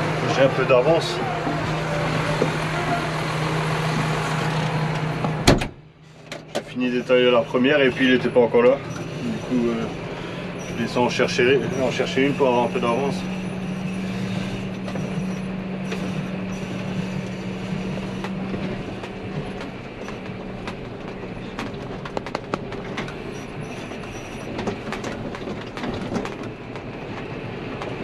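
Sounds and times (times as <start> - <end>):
cab and trailer rattling: 0.0 - 28.0
tractor running: 0.0 - 28.0.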